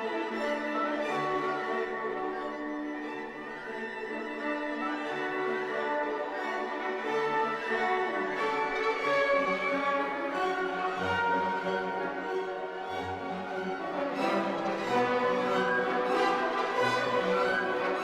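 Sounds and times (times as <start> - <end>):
orchestral string music: 0.0 - 18.0.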